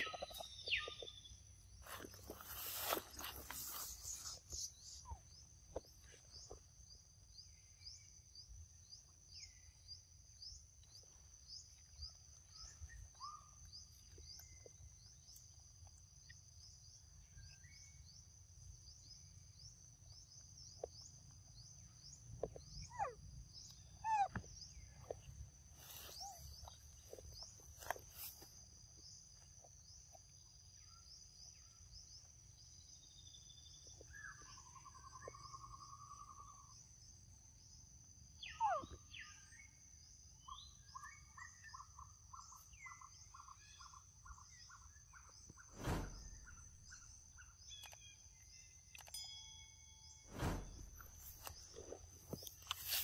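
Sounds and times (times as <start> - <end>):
insect trill: 0.0 - 53.0.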